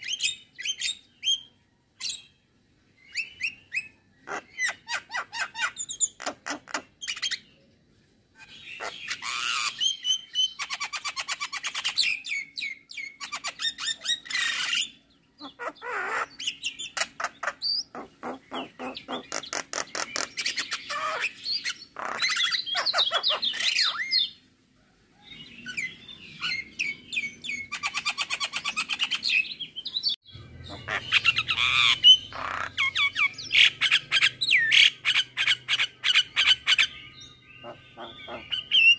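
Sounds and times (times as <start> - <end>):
bird singing varied song: 0.0 - 24.5, 25.1 - 38.9.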